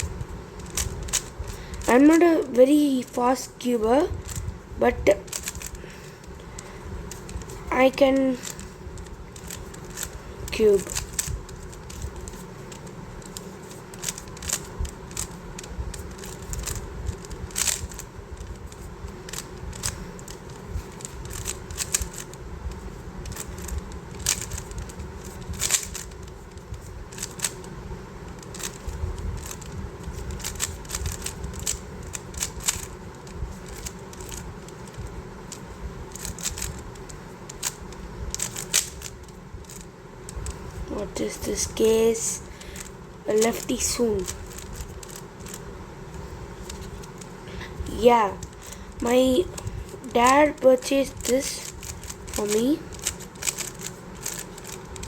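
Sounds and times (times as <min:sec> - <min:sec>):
speed cube clicking as turned: 0:00.0 - 0:55.0.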